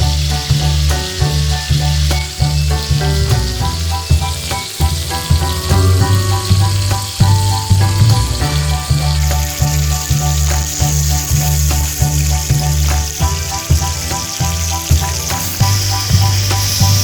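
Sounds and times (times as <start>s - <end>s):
chicken sizzling in frying: 0.0s - 17.0s
music with rhythmic bass line: 0.0s - 17.0s.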